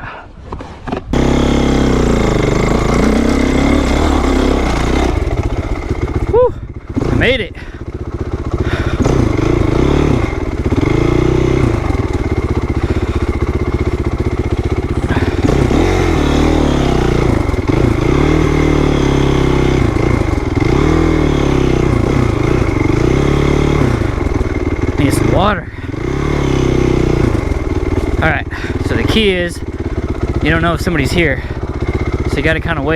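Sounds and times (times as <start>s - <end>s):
motorcycle engine revving: 0.9s - 32.9s.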